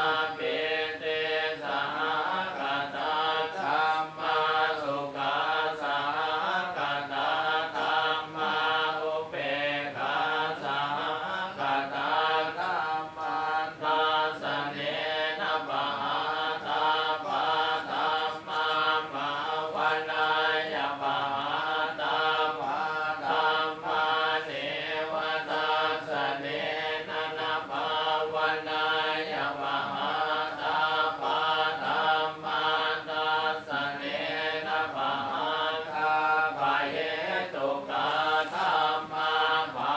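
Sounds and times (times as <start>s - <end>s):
rhythmic monotone chanting: 0.0s - 39.9s.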